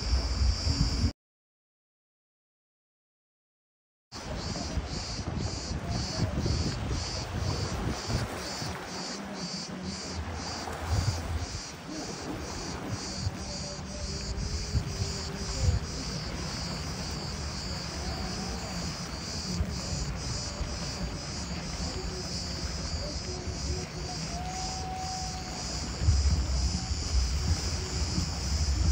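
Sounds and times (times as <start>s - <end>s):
cicadas pulsing chorus: 0.0s - 1.1s, 4.2s - 28.9s
wind rumble on microphone: 0.0s - 1.1s, 4.2s - 28.9s.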